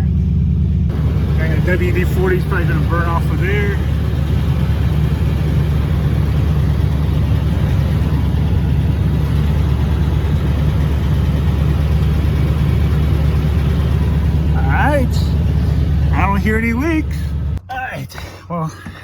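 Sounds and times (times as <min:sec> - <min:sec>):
truck engine idling: 0:00.0 - 0:17.6.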